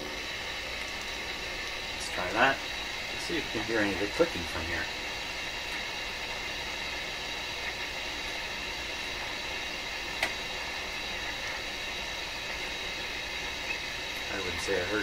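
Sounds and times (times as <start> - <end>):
radio static hiss: 1.2 - 15.0.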